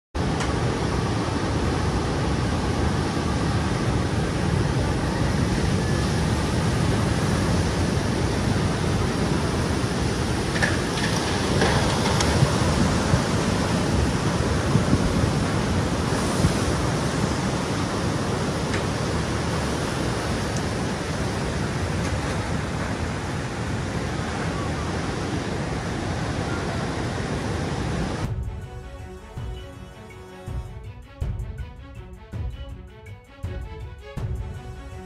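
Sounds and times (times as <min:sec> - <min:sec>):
water rushing and churning: 0:00.2 - 0:31.6.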